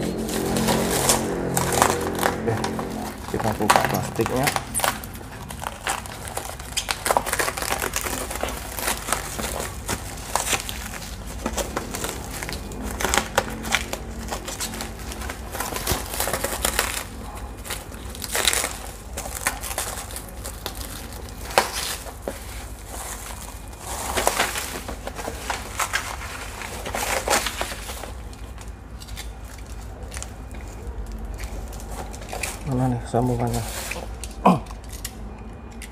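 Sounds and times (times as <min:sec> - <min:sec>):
plastic wrap crinkling: 0:00.0 - 0:35.2.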